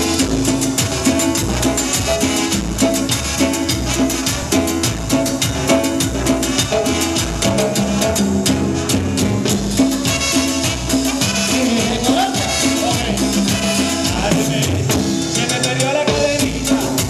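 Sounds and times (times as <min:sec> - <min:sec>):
latin dance band playing: 0:00.0 - 0:17.0.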